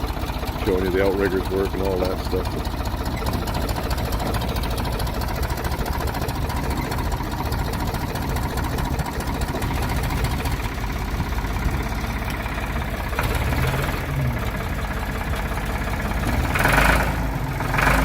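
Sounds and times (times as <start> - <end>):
diesel tractor engine running: 0.0 - 18.0.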